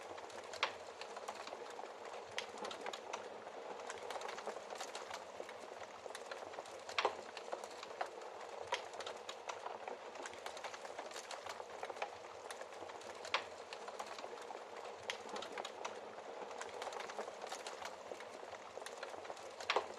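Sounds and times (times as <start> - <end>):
wood fire crackling: 0.0 - 19.9.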